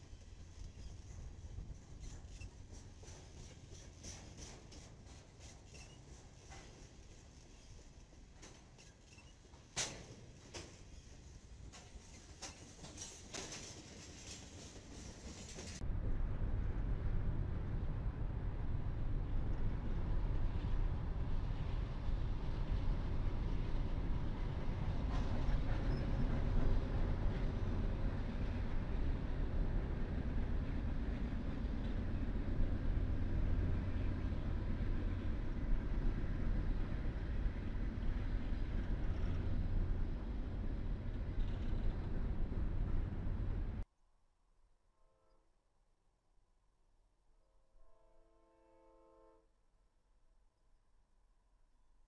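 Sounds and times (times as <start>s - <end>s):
freight train wheels rumbling: 0.0s - 43.8s.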